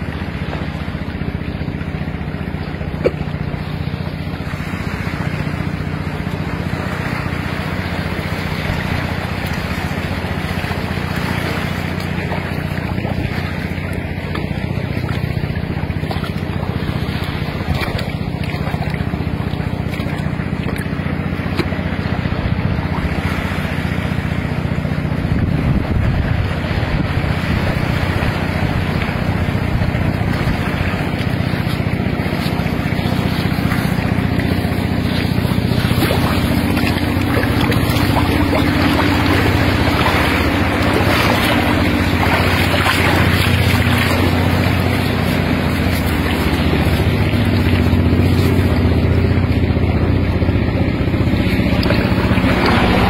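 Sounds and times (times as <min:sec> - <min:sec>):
low drone: 0:00.0 - 0:53.0
water noise: 0:00.0 - 0:53.0
wind: 0:00.0 - 0:53.0.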